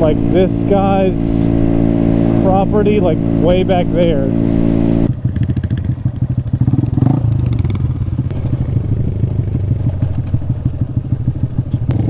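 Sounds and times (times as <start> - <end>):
motorcycle engine chugging: 0.0 - 12.0.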